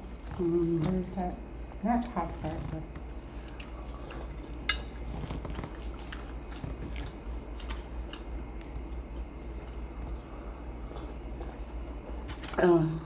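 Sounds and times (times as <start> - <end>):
steady low hum: 0.0 - 13.0
chewing and mouth smacking: 2.0 - 12.6.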